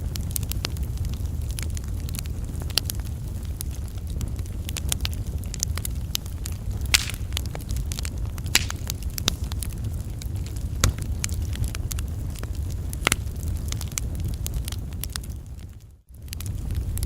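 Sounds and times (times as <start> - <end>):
campfire flame rumble: 0.0 - 17.0
fire crackling and popping: 0.0 - 17.0.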